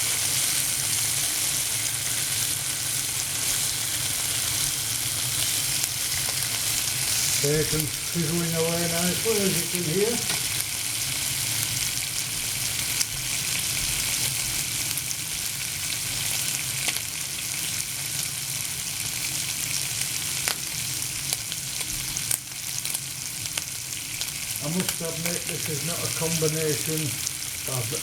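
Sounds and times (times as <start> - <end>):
bacon sizzling in a pan: 0.0 - 28.0.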